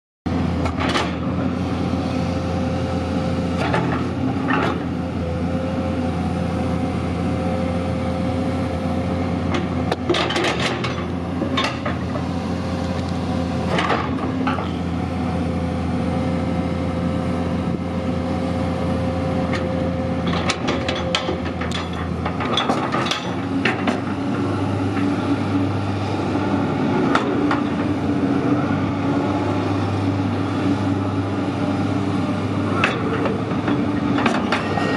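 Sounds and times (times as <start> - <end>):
excavator diesel engine running: 0.3 - 34.9.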